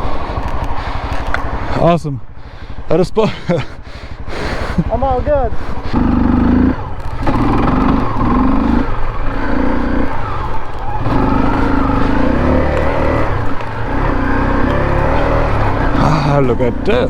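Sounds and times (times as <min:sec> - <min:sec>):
motorcycle engine revving: 0:00.0 - 0:17.0
wind and road rumble: 0:00.0 - 0:17.0.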